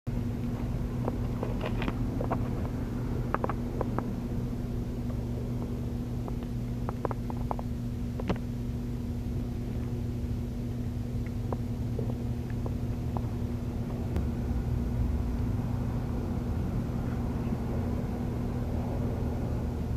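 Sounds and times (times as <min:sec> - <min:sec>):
low mechanical hum: 0:00.1 - 0:19.9.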